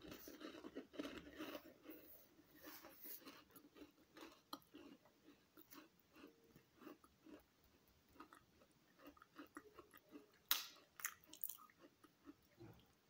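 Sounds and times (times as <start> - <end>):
chewing crunchy cookie: 0.0 - 13.0.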